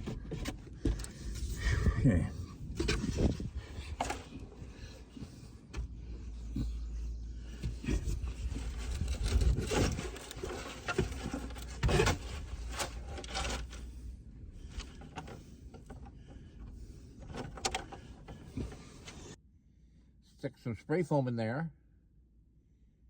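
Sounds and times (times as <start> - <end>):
rubbing and scraping: 0.0 - 19.4.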